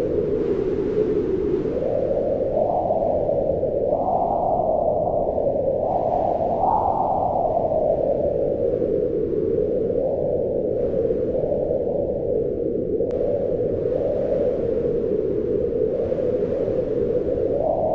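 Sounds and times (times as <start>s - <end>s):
wind howling: 0.0s - 17.9s.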